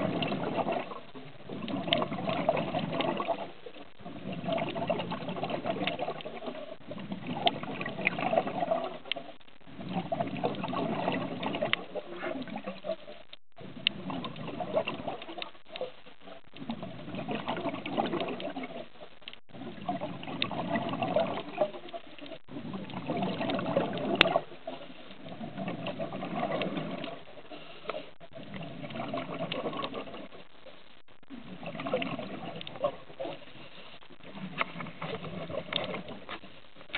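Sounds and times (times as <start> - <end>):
muffled underwater bubbling: 0.0 - 36.9.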